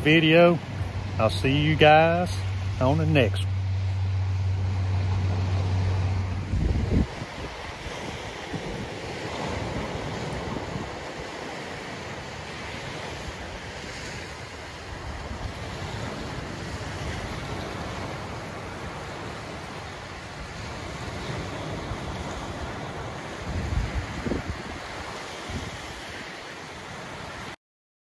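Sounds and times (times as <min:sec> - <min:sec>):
wind buffeting microphone: 0:00.0 - 0:26.4
small waves breaking on beach: 0:00.0 - 0:27.6.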